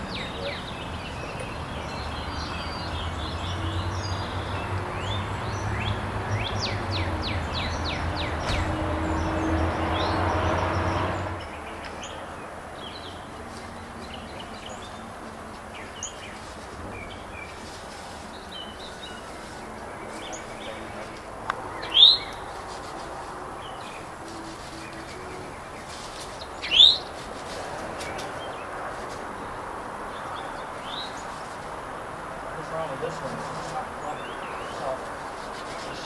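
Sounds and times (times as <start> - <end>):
wild birds chirping: 0.0 - 36.0.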